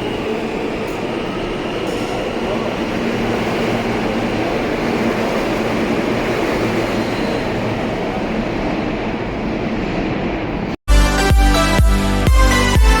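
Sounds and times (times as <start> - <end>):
subway train wheels rumbling on track: 0.0 - 10.8.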